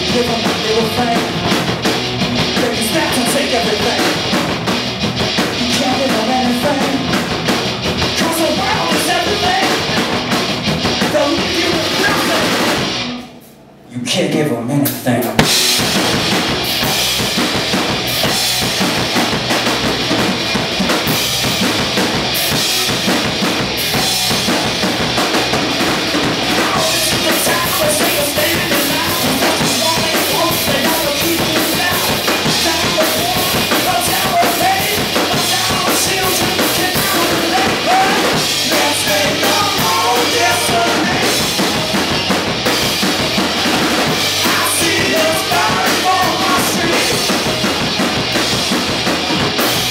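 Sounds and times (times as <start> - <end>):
bass guitar: 0.0 - 13.5, 15.0 - 49.9
electric guitar: 0.0 - 13.7, 15.4 - 49.9
drum kit: 0.0 - 13.8, 14.8 - 49.9.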